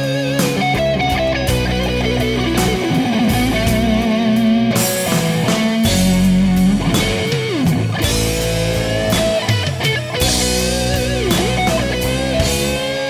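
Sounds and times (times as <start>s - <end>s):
rock electric guitar lead: 0.0s - 13.0s.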